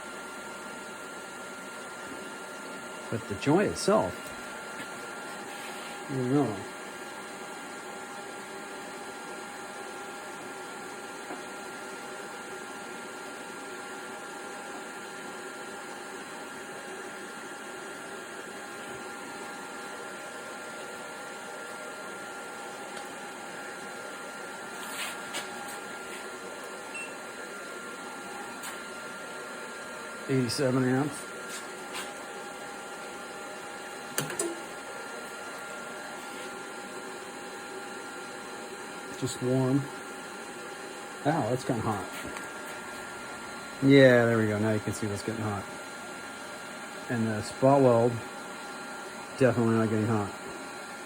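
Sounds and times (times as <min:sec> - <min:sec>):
welder whirring with whining tones: 0:00.0 - 0:51.0.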